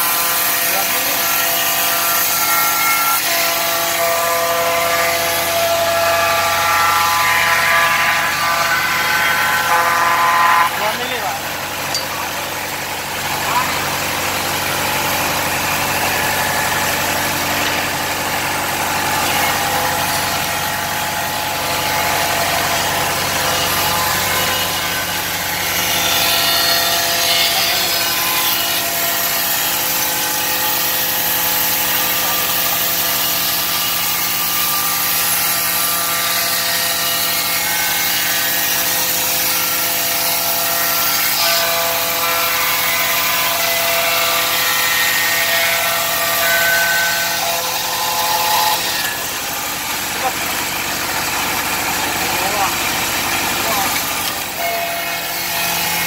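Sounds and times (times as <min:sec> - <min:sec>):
band saw machine hum: 0:00.0 - 0:36.2, 0:37.0 - 0:56.0
saw blade cutting wood: 0:00.0 - 0:56.0.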